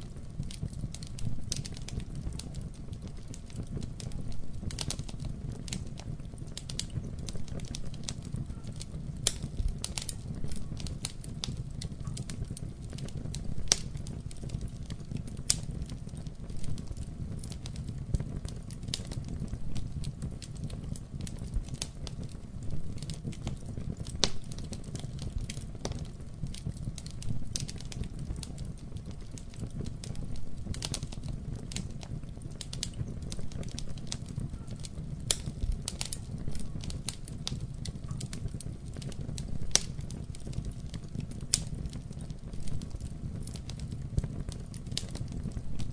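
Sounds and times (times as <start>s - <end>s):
fire crackling and popping: 0.0s - 45.9s
fire roaring: 0.0s - 45.9s.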